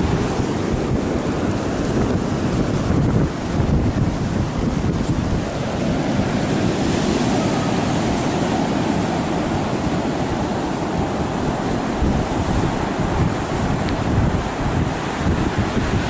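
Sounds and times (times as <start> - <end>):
surf pounding beach: 0.0 - 16.0
wind buffeting microphone: 0.0 - 16.0.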